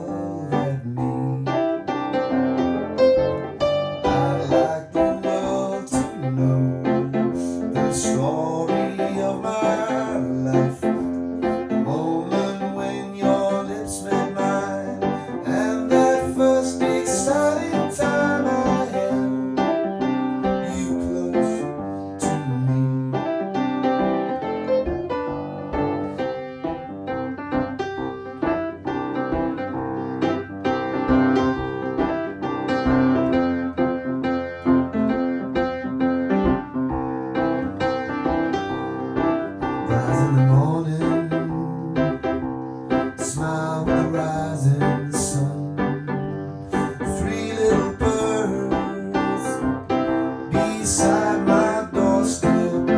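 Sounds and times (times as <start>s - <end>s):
electric keyboard chords: 0.0s - 52.9s.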